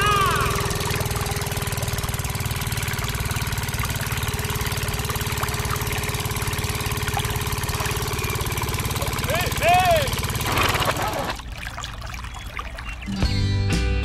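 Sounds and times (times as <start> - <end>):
small engine chugging: 0.0 - 13.2.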